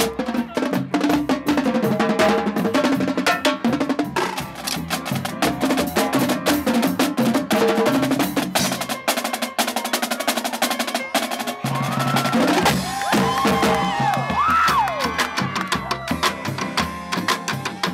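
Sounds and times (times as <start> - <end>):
marching drumline playing: 0.0 - 17.9.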